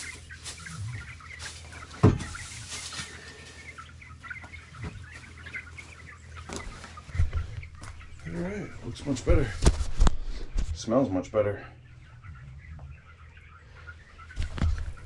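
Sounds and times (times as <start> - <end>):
chickens clucking and chirping: 0.0 - 15.0.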